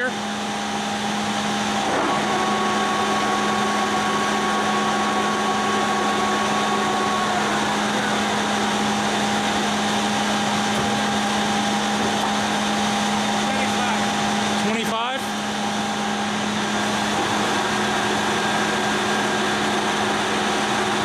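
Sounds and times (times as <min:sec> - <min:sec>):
high machine whine: 0:00.0 - 0:21.0
lathe humming: 0:00.0 - 0:21.0.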